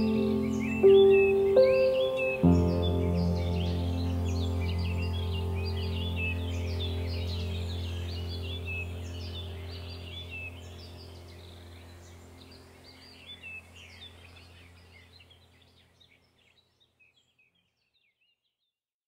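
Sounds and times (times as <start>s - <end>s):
low steady drone: 0.0s - 15.4s
birdsong chirping: 0.0s - 18.5s.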